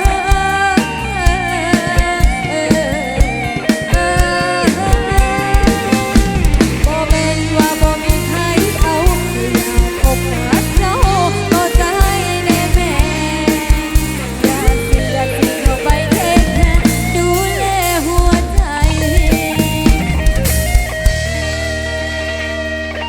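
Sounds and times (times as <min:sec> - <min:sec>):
drum kit beat: 0:00.0 - 0:23.0
live band playing amplified music: 0:00.0 - 0:23.0
wavering melody line: 0:00.0 - 0:23.0.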